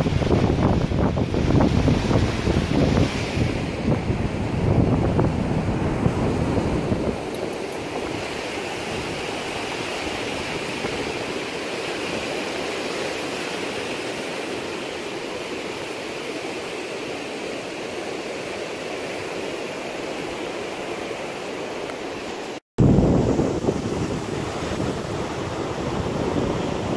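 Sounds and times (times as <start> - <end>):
ocean surf washing onto beach: 0.0 - 26.9.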